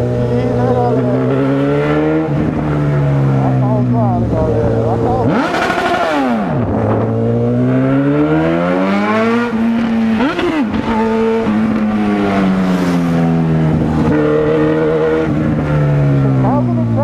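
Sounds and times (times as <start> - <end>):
motorcycle engine pulling: 0.0 - 17.0.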